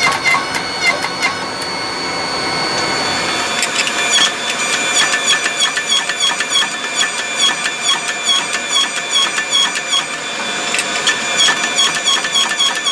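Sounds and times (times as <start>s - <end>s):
hydraulic press whining: 0.0s - 12.9s.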